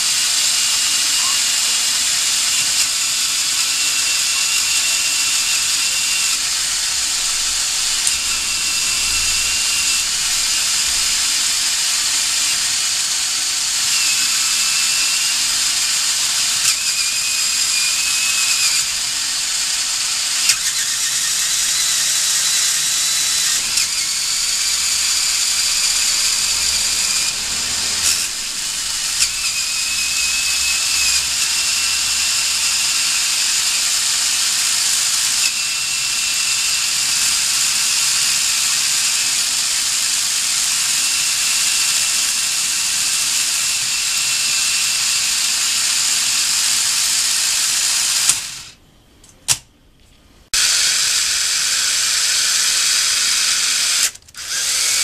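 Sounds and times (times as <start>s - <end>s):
toy gears whirring with whine: 0.0s - 48.8s, 50.5s - 55.0s.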